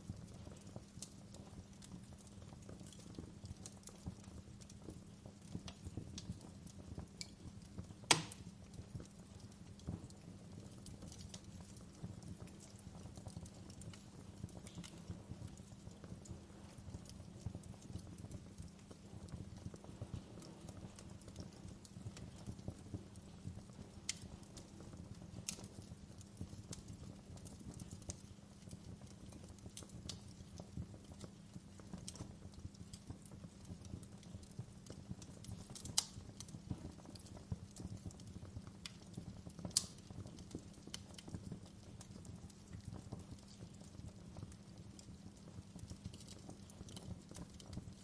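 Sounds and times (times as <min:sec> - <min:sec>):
fireplace fire crackling: 0:00.0 - 0:48.0.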